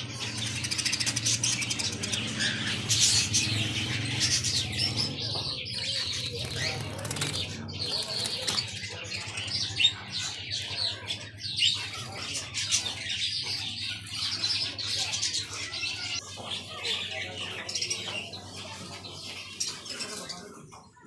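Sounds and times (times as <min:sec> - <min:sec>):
birds chirping and chattering: 0:00.0 - 0:21.0.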